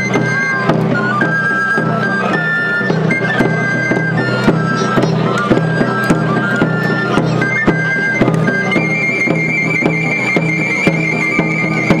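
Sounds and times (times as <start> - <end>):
drum beating: 0.0 - 12.0
small flute melody: 0.0 - 12.0.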